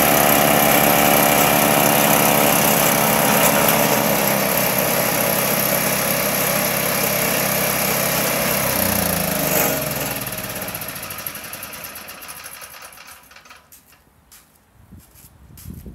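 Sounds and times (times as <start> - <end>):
snowblower engine winding down: 0.0 - 13.8.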